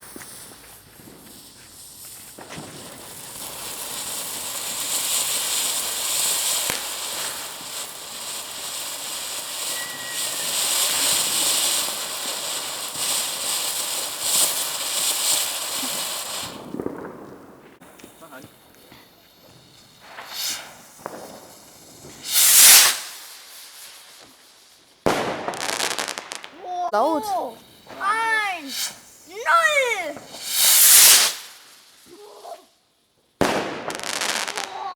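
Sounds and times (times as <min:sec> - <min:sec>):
fireworks crackling: 0:00.0 - 0:34.9.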